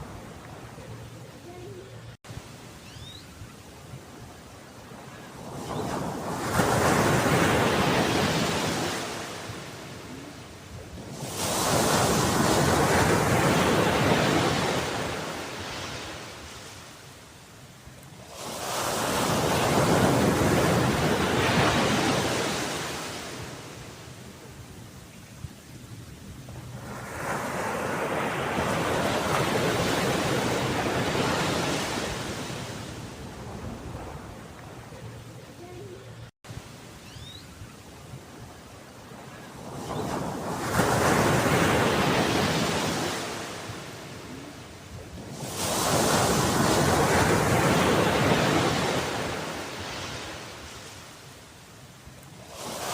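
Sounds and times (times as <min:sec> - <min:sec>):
sea waves surging: 0:00.0 - 0:02.4, 0:04.8 - 0:17.6, 0:18.2 - 0:24.5, 0:26.6 - 0:36.9, 0:38.9 - 0:52.9.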